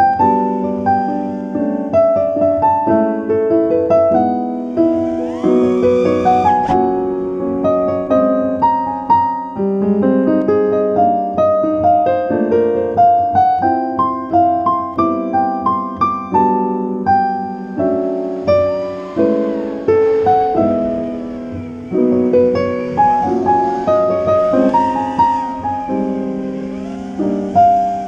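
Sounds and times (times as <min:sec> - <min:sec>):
piano melody: 0:00.0 - 0:28.0.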